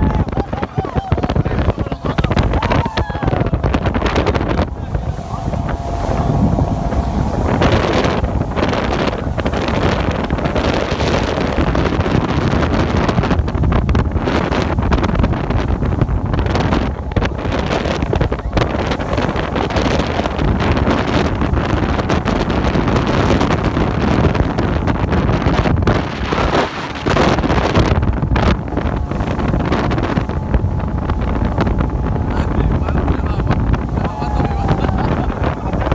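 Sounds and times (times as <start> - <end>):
boat engine drone: 0.0 - 35.9
rushing water: 0.0 - 35.9
wind buffeting microphone: 0.0 - 35.9.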